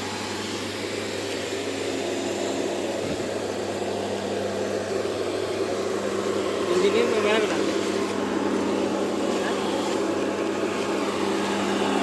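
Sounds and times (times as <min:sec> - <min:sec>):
air conditioning blower humming: 0:00.0 - 0:12.0.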